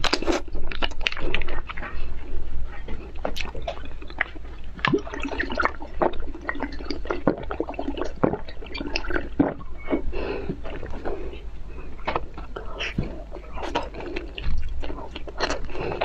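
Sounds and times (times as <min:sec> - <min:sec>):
wet lip and tongue clicks: 0:00.0 - 0:16.0
sipping and swallowing liquid: 0:03.1 - 0:16.0.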